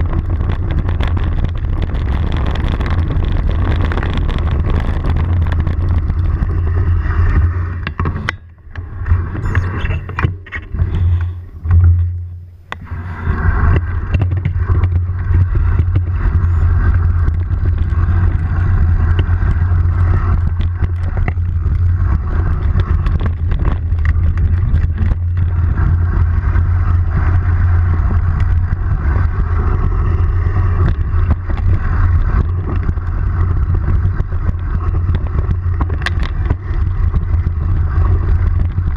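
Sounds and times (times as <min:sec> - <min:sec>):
motorcycle engine running: 0:00.0 - 0:13.0, 0:13.6 - 0:38.9.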